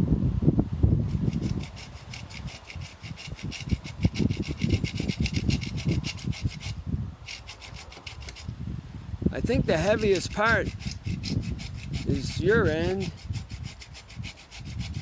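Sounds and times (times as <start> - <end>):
handsaw cutting wood: 1.1 - 8.5, 9.5 - 15.0.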